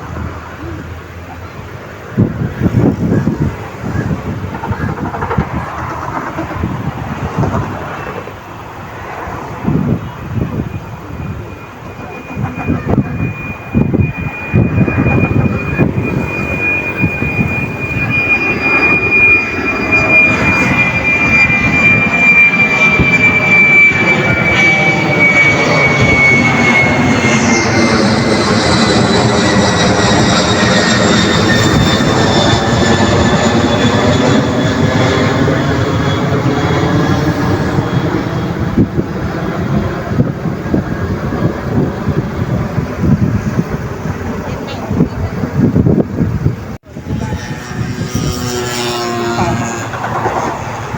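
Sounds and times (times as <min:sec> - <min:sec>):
high turbine whine: 0:00.0 - 0:50.9
higher whine dropping in pitch: 0:00.0 - 0:50.9
jet airliner engine noise: 0:00.0 - 0:50.9.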